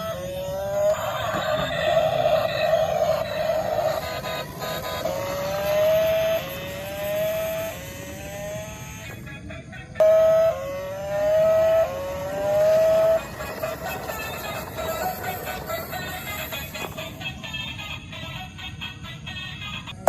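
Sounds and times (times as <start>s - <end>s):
electronic toy engine revving tone: 0.0s - 20.0s.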